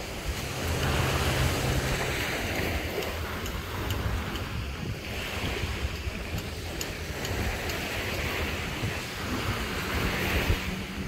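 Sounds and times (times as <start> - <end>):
small waves washing onto beach: 0.0 - 11.0
wind rumbling on microphone: 0.0 - 11.0.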